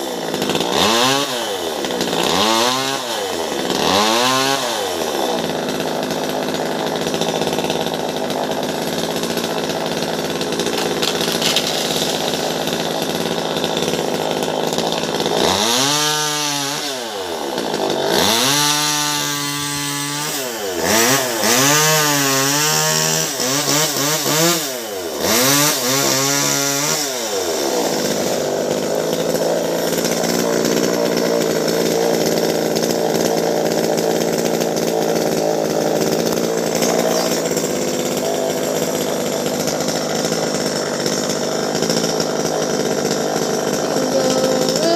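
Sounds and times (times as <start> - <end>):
chainsaw running: 0.0 - 44.9.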